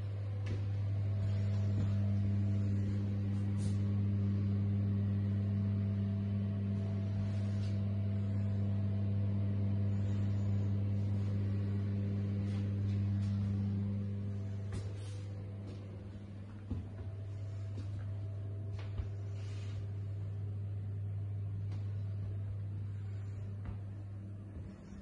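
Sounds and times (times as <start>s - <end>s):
extractor fan humming: 0.0s - 25.0s.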